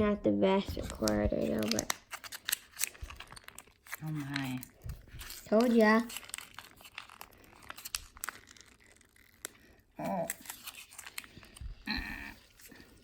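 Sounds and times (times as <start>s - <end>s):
plastic packet crinkling: 0.7s - 13.0s.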